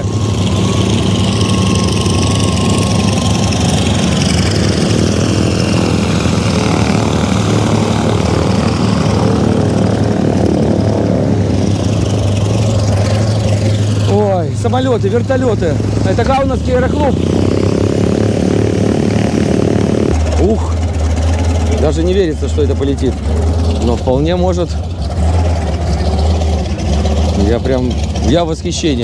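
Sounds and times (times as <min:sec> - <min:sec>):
propeller aircraft engine running: 0:00.0 - 0:29.0.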